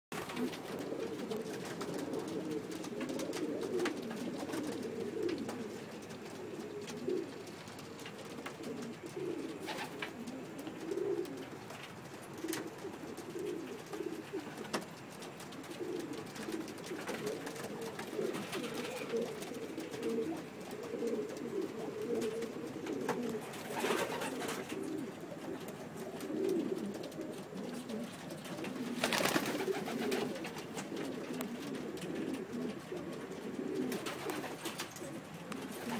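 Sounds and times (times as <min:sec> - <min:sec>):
pigeons cooing: 0:00.2 - 0:35.9
wing flaps: 0:00.2 - 0:35.9.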